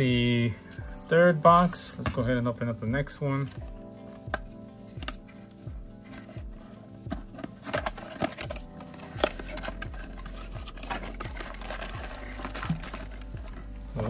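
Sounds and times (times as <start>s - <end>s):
soft background music with beat: 0.0s - 14.0s.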